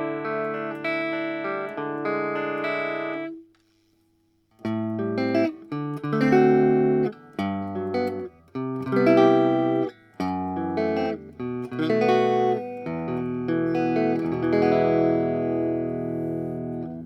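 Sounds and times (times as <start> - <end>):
electric guitar chords: 0.0 - 3.4, 4.6 - 17.0.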